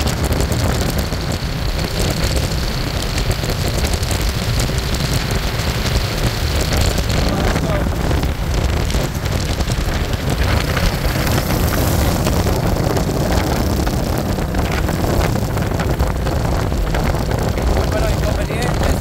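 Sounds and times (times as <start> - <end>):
vehicle engine and road noise: 0.0 - 19.0
wind buffeting microphone: 0.0 - 19.0.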